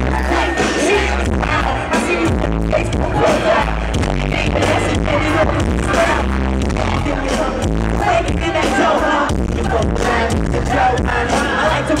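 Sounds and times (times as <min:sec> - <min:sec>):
live band performing: 0:00.0 - 0:12.0
person singing: 0:00.0 - 0:12.0
steady drum beat: 0:00.0 - 0:12.0.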